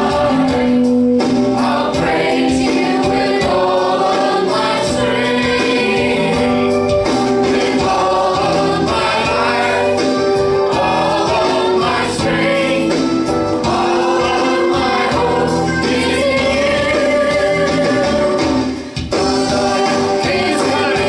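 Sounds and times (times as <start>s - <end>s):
choir singing gospel song: 0.0s - 21.0s
musical accompaniment: 0.0s - 21.0s.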